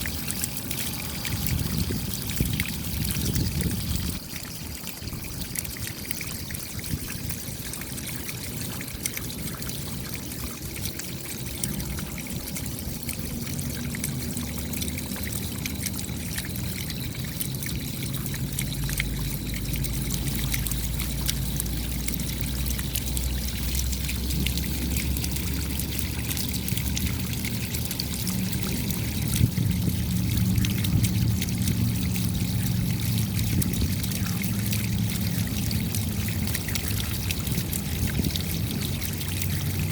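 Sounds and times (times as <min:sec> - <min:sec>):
rain pattering: 0:00.0 - 0:06.5, 0:07.2 - 0:39.9
water trickling and pouring: 0:00.0 - 0:39.9.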